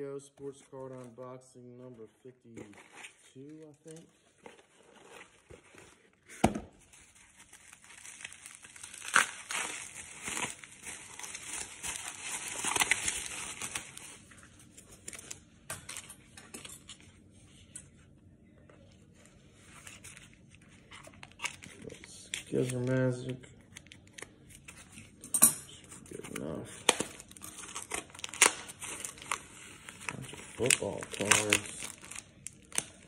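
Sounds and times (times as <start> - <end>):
cardboard and bubble wrap crinkling: 2.4 - 16.0, 18.8 - 25.1, 25.9 - 33.0.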